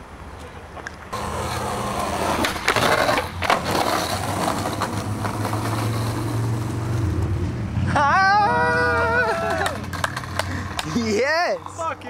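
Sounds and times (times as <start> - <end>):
skateboard wheels on asphalt: 0.1 - 12.0.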